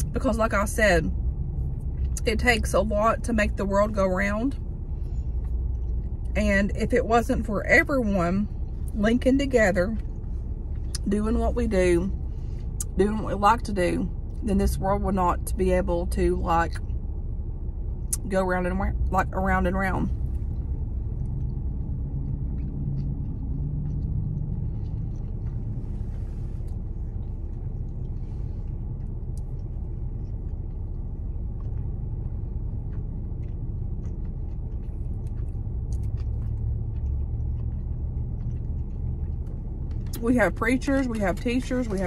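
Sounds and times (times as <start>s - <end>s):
low rumble in car cabin: 0.0s - 42.0s.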